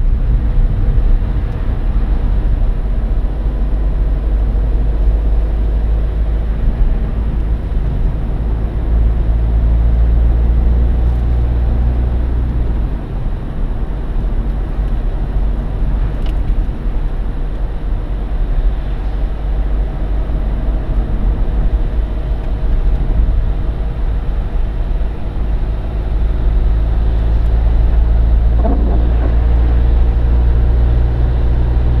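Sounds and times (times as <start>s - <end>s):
engine and tyre drone: 0.0s - 32.0s.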